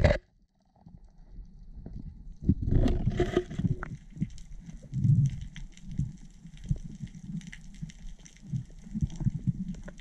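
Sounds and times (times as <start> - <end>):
faint crackling clicks: 0.0 - 10.0.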